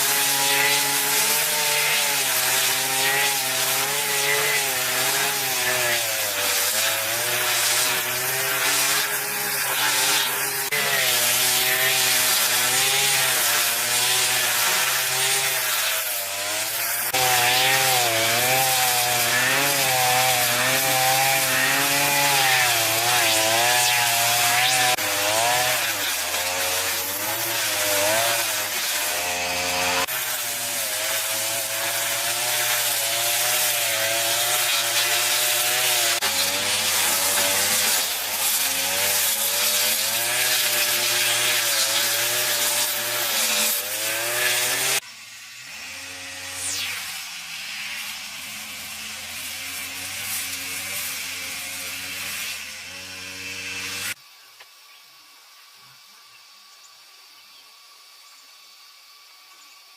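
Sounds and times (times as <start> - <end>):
chainsaw cutting wood: 0.0 - 54.2.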